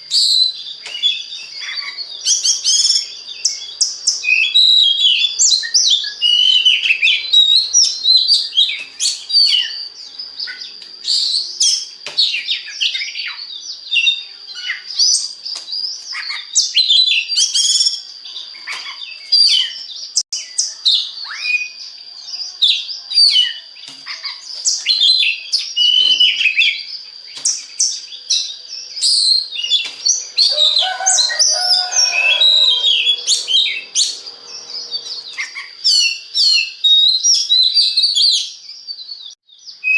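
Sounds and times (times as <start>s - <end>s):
bird song whistles and chirps: 0.0s - 39.9s.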